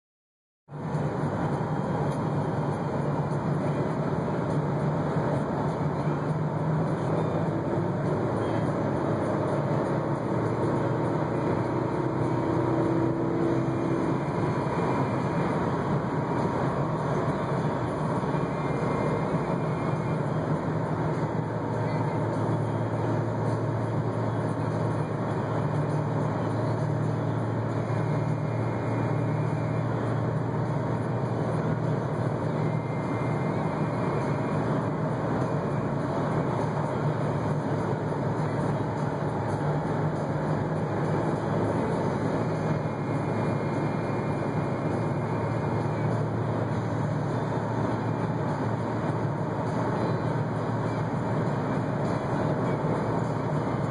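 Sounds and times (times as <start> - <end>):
low engine hum: 0.7 - 53.9.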